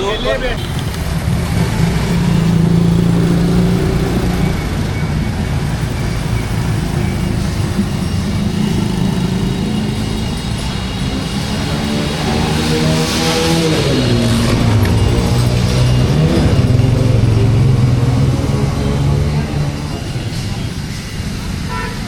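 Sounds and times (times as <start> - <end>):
busy street noise: 0.0 - 22.0
vehicle engine running: 0.7 - 21.7.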